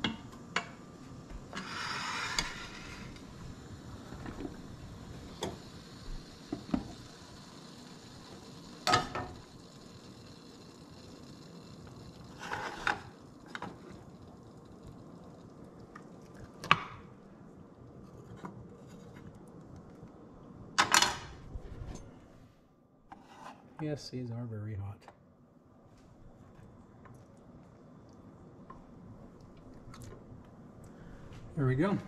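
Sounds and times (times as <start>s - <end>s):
faint steady hiss: 0.0s - 32.0s.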